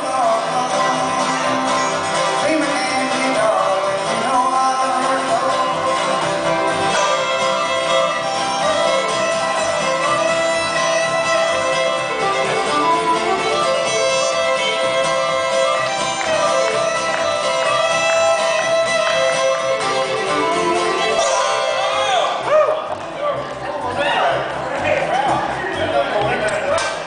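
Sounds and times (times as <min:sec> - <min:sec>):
clawhammer banjo: 0:00.0 - 0:27.0
string instruments playing: 0:00.0 - 0:27.0.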